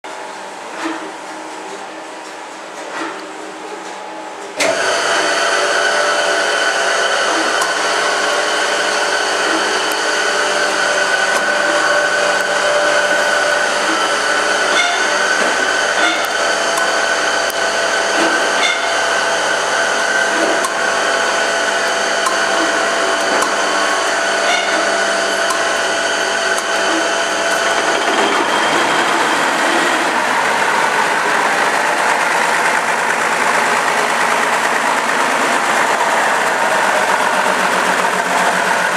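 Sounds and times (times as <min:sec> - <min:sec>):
diesel engine mechanical whir: 0:04.5 - 0:38.9.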